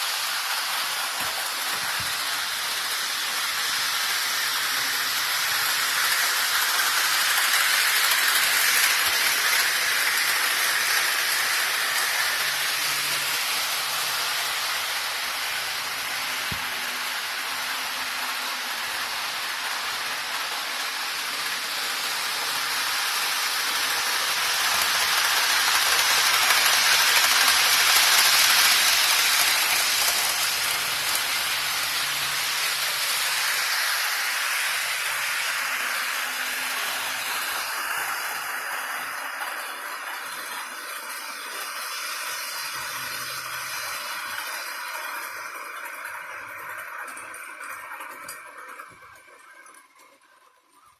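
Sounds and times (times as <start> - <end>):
model train rattling on track: 0.0 - 50.9.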